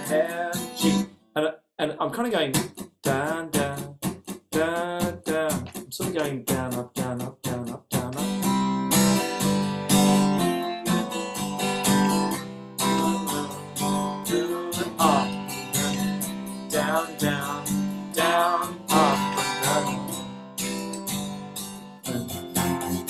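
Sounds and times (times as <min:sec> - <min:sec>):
acoustic guitar strumming: 0:00.0 - 0:01.2, 0:02.5 - 0:23.0.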